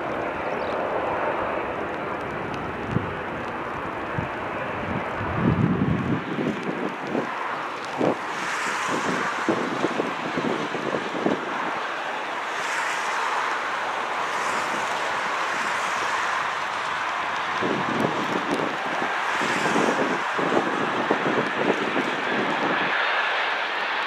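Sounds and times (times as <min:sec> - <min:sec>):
wind buffeting microphone: 0:00.0 - 0:23.8
jet engines rushing: 0:00.0 - 0:24.0.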